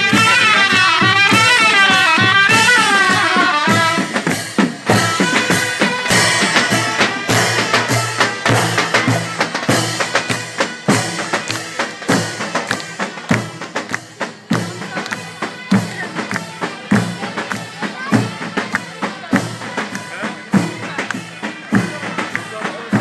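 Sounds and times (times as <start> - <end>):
bass drums beating: 0.0 - 23.0.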